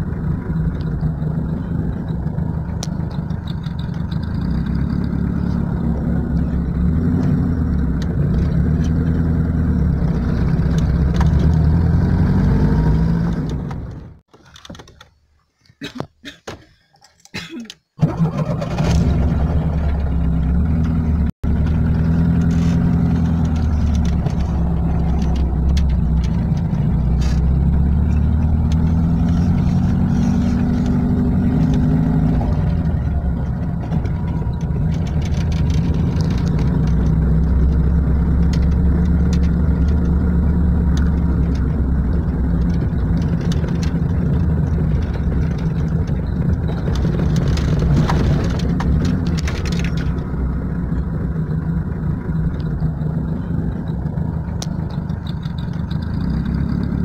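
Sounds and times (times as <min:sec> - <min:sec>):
car engine running inside cabin: 0:00.0 - 0:14.3, 0:19.0 - 0:57.0.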